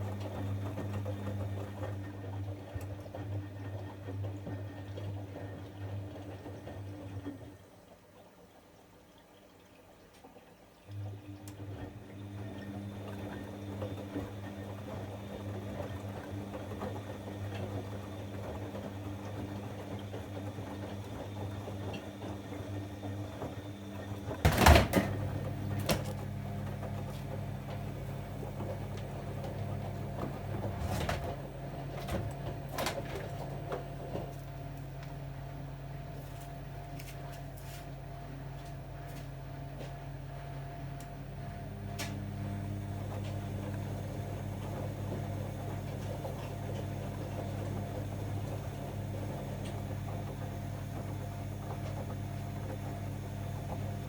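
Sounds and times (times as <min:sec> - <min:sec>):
washing machine motor hum: 0:00.0 - 0:09.3, 0:10.2 - 0:54.0
water running into washing machine: 0:00.0 - 0:54.0.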